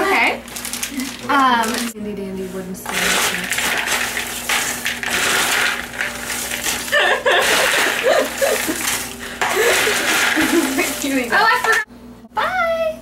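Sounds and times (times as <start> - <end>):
snack mix rattling and crunching: 0.4 - 2.0, 2.8 - 11.9.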